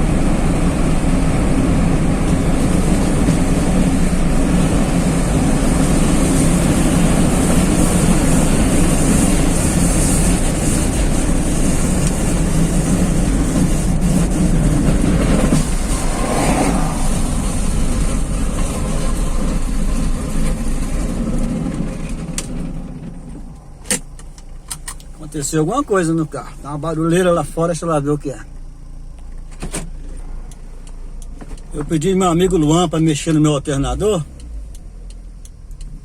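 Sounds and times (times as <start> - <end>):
car engine and tyre noise: 0.0 - 36.0.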